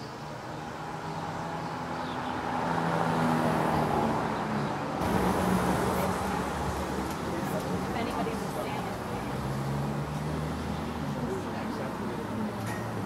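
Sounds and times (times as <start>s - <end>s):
cars passing on street: 0.0s - 13.0s
outdoor background noise: 0.0s - 13.0s.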